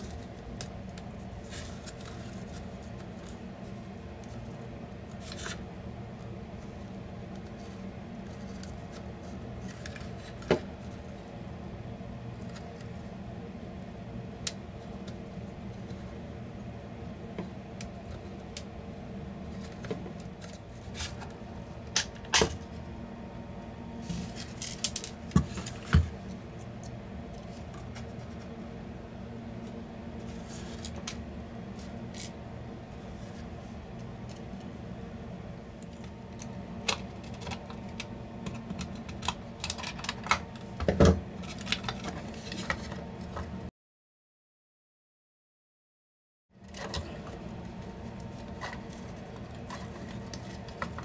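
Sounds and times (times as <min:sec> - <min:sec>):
steady low hum: 0:00.0 - 0:43.7, 0:46.6 - 0:51.0.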